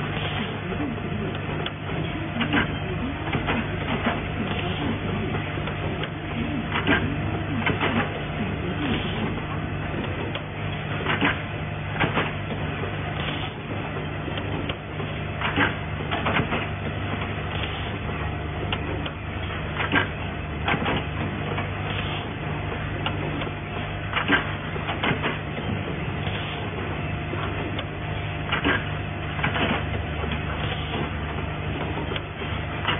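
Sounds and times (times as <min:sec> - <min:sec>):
machine mechanical hum: 0:00.0 - 0:32.9.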